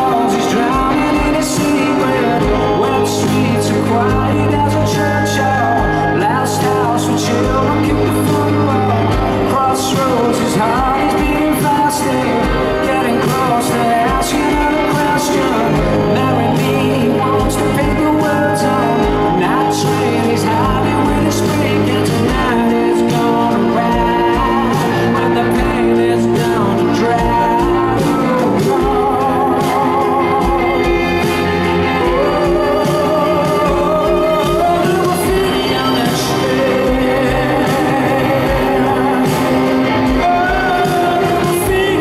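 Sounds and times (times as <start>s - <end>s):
bass notes: 0.0s - 42.0s
drum beat: 0.0s - 42.0s
electric guitars: 0.0s - 42.0s
man singing lead vocal: 0.0s - 42.0s.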